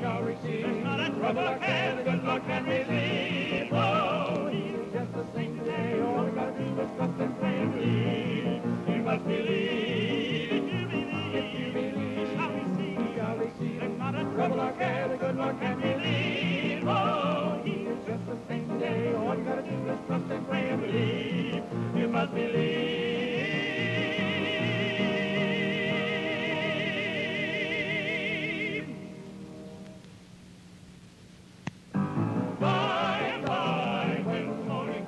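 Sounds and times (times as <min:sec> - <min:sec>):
gospel singers with vibrato: 0:00.0 - 0:29.2, 0:32.5 - 0:35.0.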